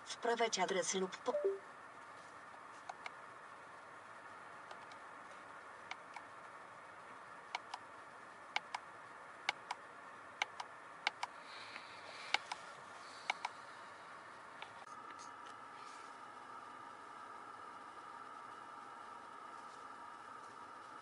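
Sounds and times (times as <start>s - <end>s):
faint car cabin background: 0.0s - 20.9s.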